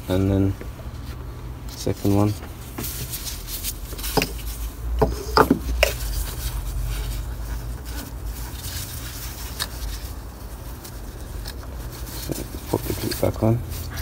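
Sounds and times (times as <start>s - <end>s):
low steady hum: 0.0s - 14.0s
hands handling and rubbing: 0.1s - 14.0s.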